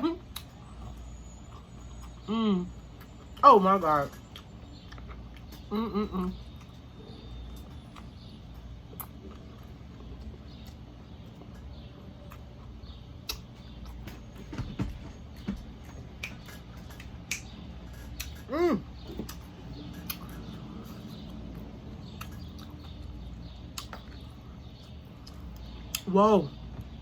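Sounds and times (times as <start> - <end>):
chewing clicks and smacks: 0.2 - 3.4, 4.2 - 5.7, 6.3 - 26.1.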